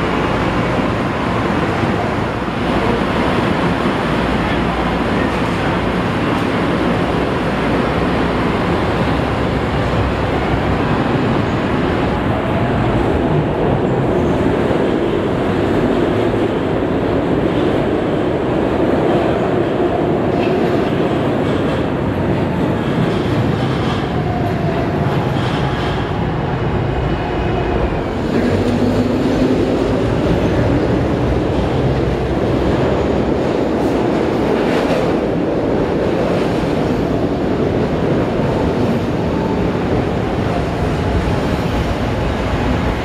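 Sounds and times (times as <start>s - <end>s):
subway trains running: 0.0s - 43.0s.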